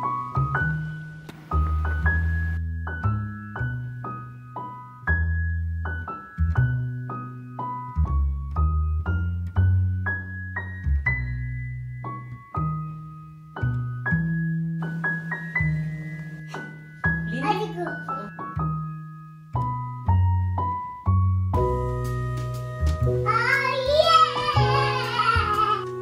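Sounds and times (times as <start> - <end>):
gentle piano tune: 0.0 - 26.0.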